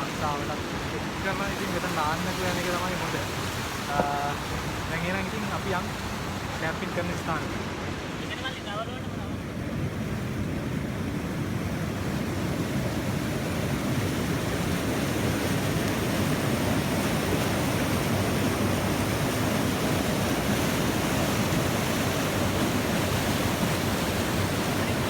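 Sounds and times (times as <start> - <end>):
waterfall rushing: 0.0 - 9.6, 11.8 - 25.0.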